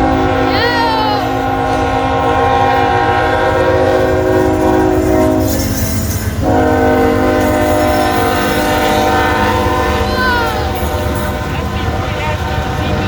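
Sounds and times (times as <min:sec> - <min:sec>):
locomotive air horn: 0:00.0 - 0:13.0
low rumble of passing train: 0:00.0 - 0:13.0.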